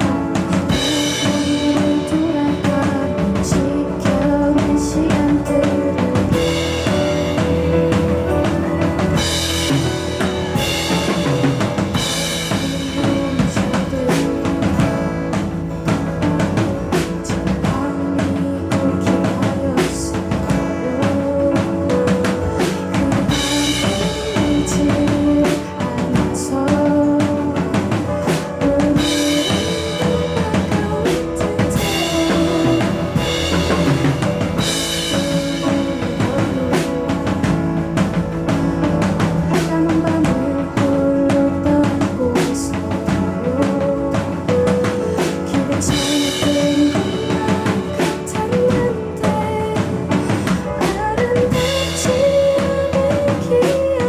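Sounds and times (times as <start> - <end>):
drum kit steady beat: 0.0 - 54.0
live band playing: 0.0 - 54.0.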